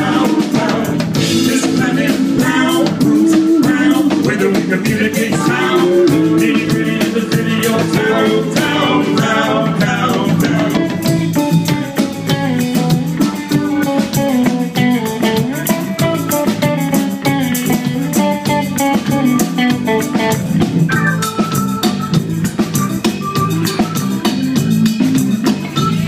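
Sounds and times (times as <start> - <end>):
bass: 0.0 - 26.0
drum kit: 0.0 - 26.0
electric guitar melody: 0.0 - 26.0.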